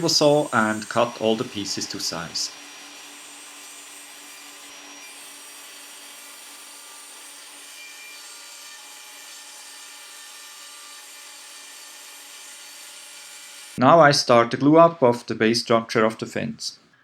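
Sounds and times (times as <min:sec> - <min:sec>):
table saw whirring: 0:00.0 - 0:13.8.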